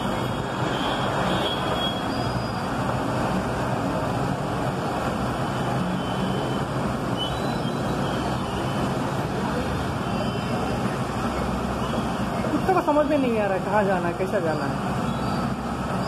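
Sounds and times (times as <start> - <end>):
vehicle engines humming: 0.0 - 16.0.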